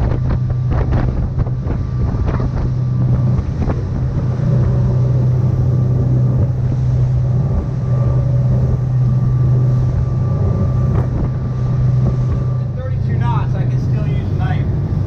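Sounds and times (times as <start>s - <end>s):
boat engines humming: 0.0s - 15.0s
water rushing from wake: 0.0s - 15.0s.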